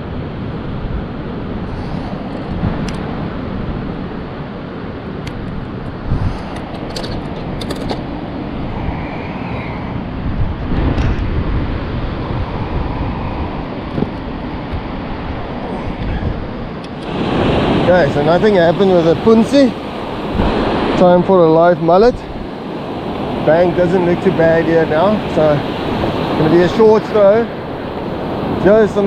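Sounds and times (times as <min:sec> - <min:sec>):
surf on beach: 0:00.0 - 0:29.0
wind rumble on microphone: 0:00.0 - 0:29.0
wind rushing: 0:00.0 - 0:29.0.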